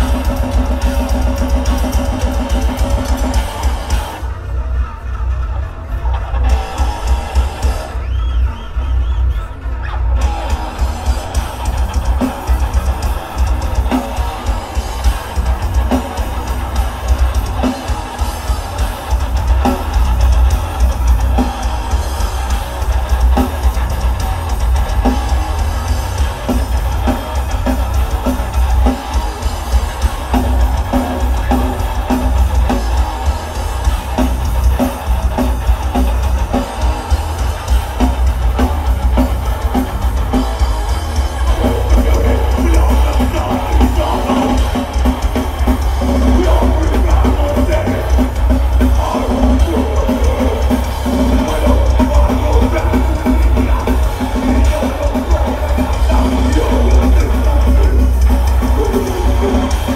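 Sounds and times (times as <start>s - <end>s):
pounding bass drum: 0.0s - 4.4s, 6.1s - 8.0s, 10.2s - 59.9s
bass guitar: 0.0s - 59.9s
distorted electric guitars: 0.0s - 59.9s.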